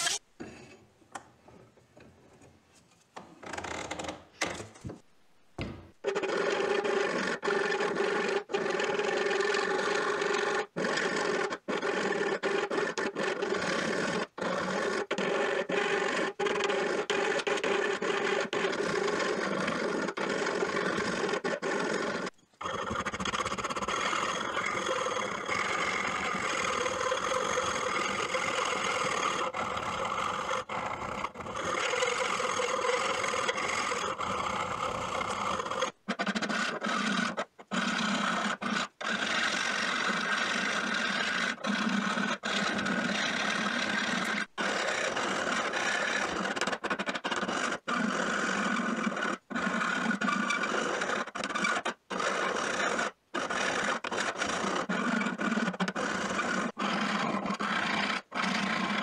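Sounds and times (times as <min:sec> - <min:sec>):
file scraping on steel: 0:00.0 - 0:00.8, 0:06.0 - 0:59.0.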